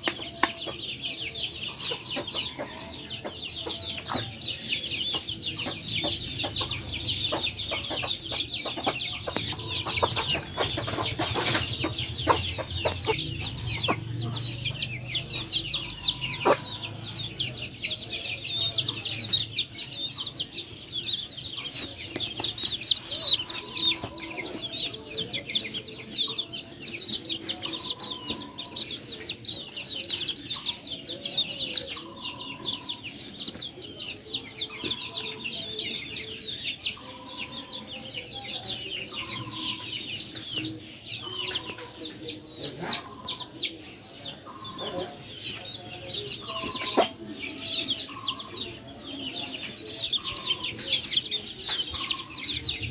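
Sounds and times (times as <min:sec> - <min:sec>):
chicks peeping: 0:00.0 - 0:52.9
hens clucking: 0:00.0 - 0:52.9.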